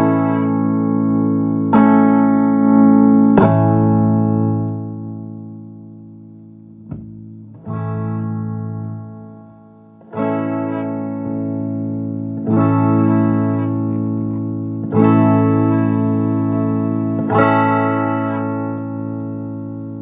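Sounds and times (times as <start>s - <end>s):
electric guitar chords ringing: 0.0s - 20.0s.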